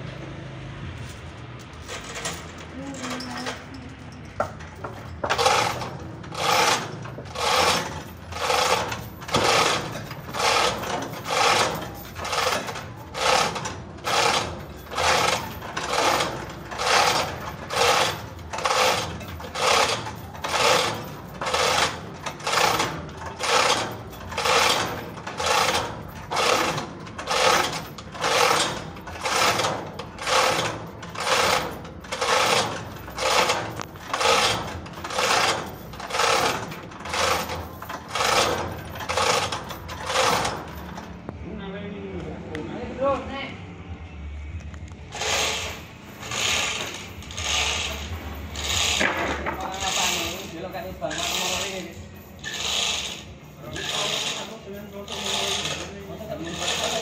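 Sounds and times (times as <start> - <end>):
sawmill saw cutting log: 5.2 - 40.6, 45.2 - 57.0.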